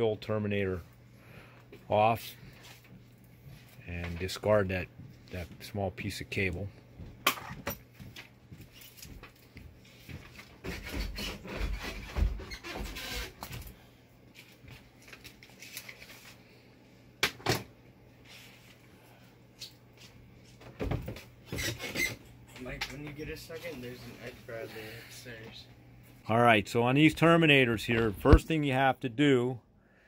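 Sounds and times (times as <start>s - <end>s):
faint steady hum: 0.0s - 10.8s, 12.8s - 30.0s.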